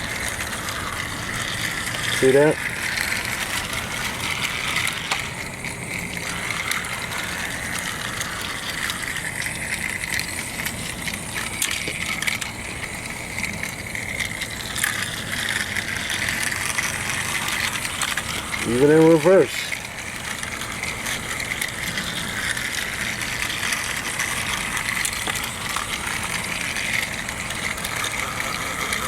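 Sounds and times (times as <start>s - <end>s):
toy train motor whirring: 0.0s - 29.0s
wheels clicking over track: 0.0s - 29.0s.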